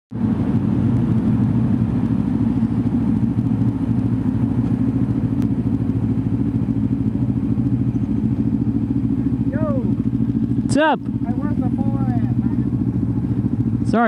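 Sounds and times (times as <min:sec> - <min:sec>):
motorcycle engine running: 0:00.1 - 0:14.0.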